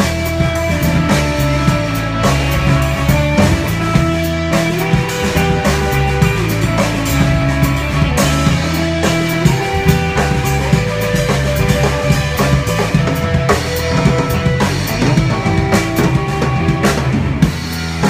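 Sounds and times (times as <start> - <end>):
drum kit beat: 0.0 - 18.0
electric guitar: 0.0 - 18.0
upright bass: 0.0 - 18.0.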